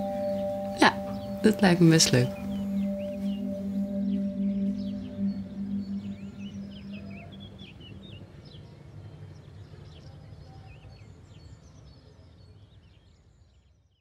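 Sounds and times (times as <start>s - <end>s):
birds chirping: 0.0s - 13.5s.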